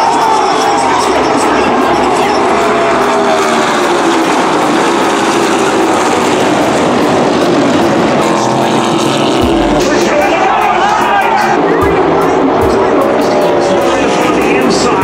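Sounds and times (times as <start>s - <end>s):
race car engines at speed: 0.0s - 15.0s.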